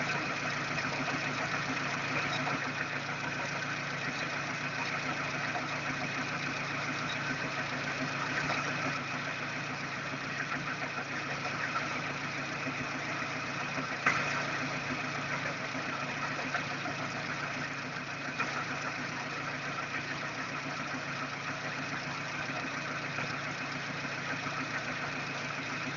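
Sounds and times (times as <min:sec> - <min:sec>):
car engine idling: 0:00.0 - 0:25.9
engine knocking: 0:00.0 - 0:25.9.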